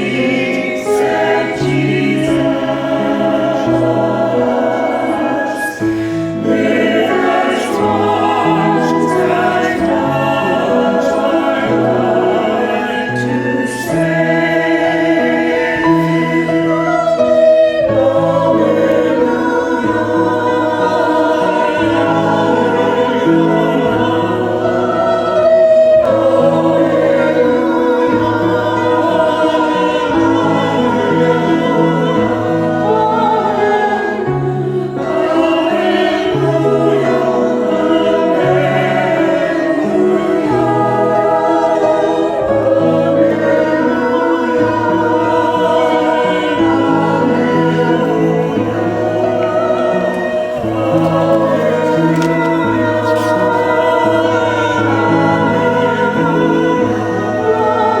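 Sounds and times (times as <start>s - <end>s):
choir singing a hymn: 0.0s - 58.0s
instrumental accompaniment: 0.0s - 58.0s.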